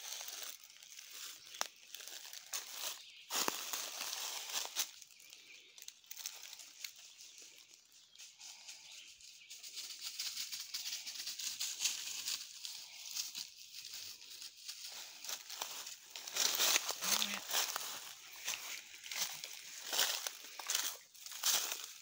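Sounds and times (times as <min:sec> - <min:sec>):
footsteps crunching dry leaves: 0:00.0 - 0:22.0.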